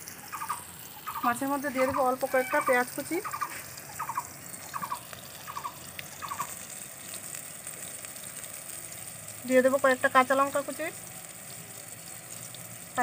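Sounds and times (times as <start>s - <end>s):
eggplant sizzling in oil: 0.0s - 13.0s.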